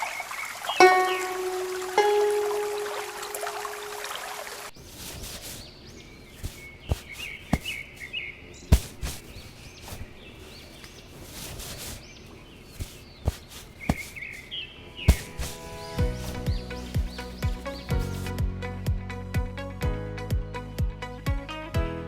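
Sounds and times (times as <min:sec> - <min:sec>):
birds chirping: 0:00.0 - 0:18.4.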